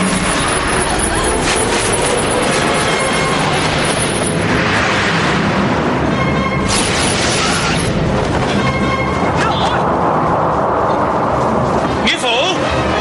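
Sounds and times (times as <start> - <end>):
dramatic soundtrack music: 0.0 - 13.0
rushing rumble of action effects: 0.0 - 13.0.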